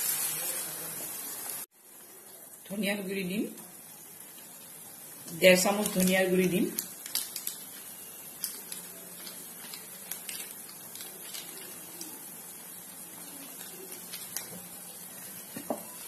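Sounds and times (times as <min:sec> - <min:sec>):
paste hissing in a frying pan: 0:00.0 - 0:02.6, 0:03.2 - 0:16.0.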